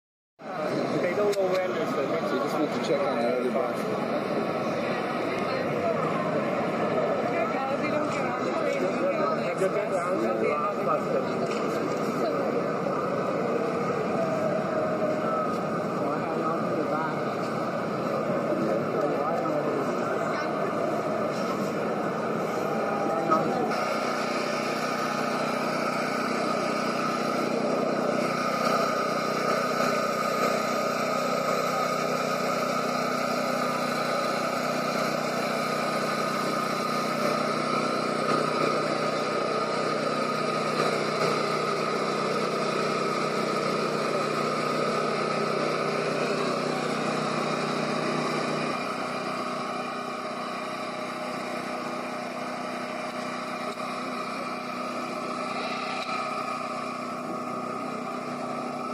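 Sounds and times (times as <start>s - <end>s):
vehicle mechanical hum: 0.4s - 58.9s.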